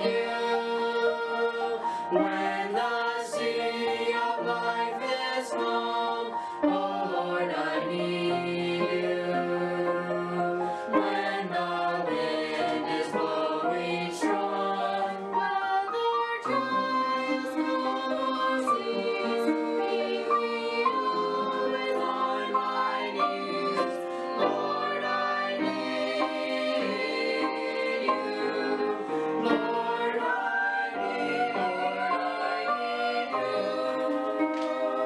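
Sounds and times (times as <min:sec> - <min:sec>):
mixed choir singing in harmony: 0:00.0 - 0:35.0.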